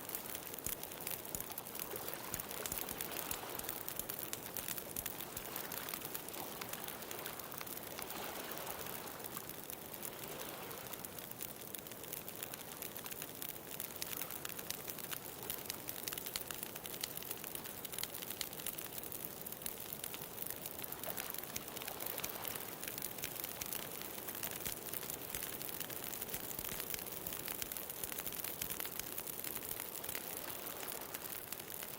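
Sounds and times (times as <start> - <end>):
bonfire crackling and popping: 0.0 - 31.9.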